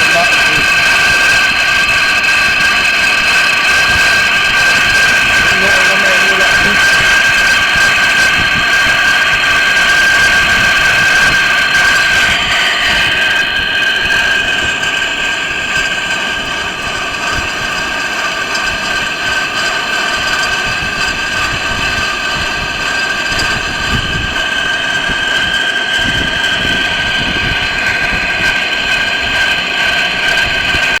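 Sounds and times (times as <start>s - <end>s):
metal lathe whining: 0.0s - 31.0s.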